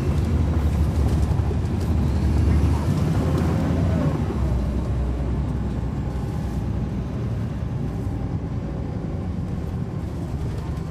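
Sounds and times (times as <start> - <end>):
bus diesel engine rumble: 0.0 - 10.9.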